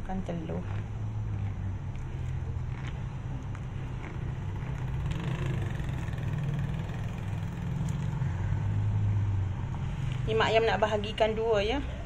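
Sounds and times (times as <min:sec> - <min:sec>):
low mechanical motor hum: 0:00.0 - 0:12.0.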